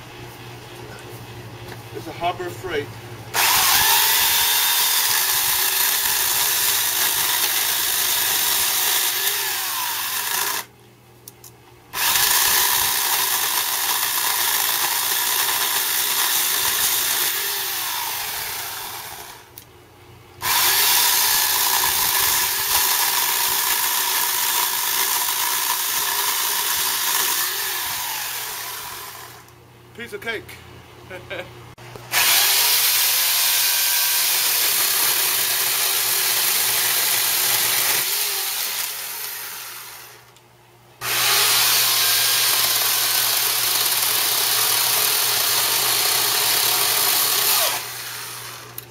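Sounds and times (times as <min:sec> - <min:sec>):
electric chainsaw cutting log: 0:03.3 - 0:10.7, 0:11.9 - 0:19.6, 0:20.4 - 0:29.5, 0:32.1 - 0:40.3, 0:41.0 - 0:48.9.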